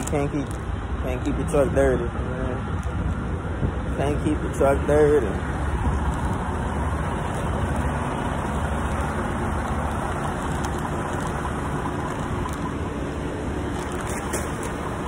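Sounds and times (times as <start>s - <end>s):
engines idling: 0.0s - 15.0s
road traffic rumble: 0.0s - 15.0s.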